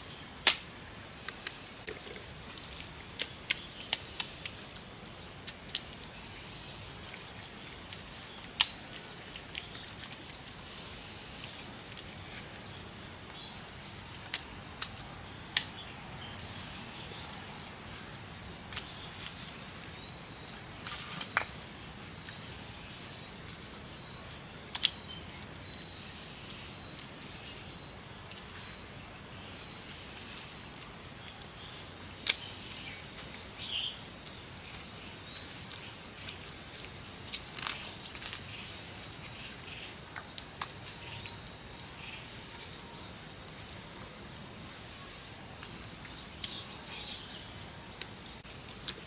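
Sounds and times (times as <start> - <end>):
high insect chorus: 0.0 - 49.0.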